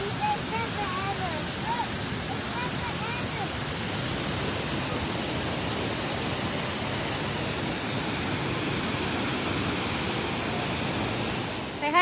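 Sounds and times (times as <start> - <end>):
waterfall pouring over rocks: 0.0 - 12.0.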